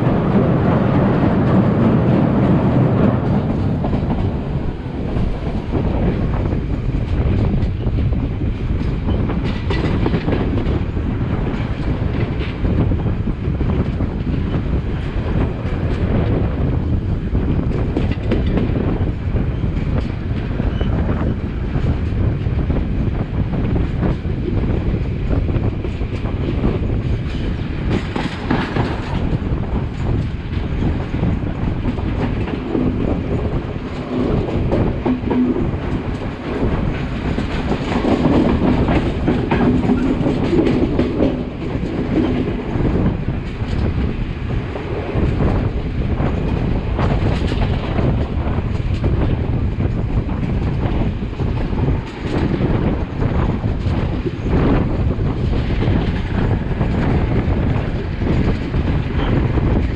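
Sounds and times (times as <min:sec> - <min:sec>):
clickety-clack of rail joints: 0:00.0 - 0:59.9
train wheels rumbling on rail: 0:00.0 - 0:59.9.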